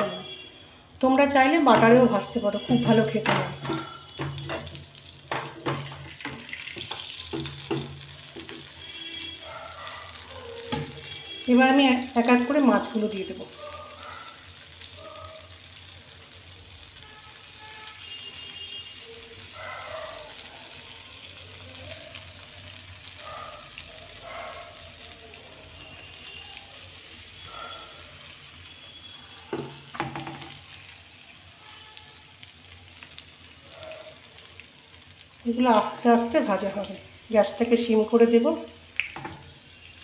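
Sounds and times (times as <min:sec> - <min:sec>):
fish sizzling in a pan: 0:00.0 - 0:40.0.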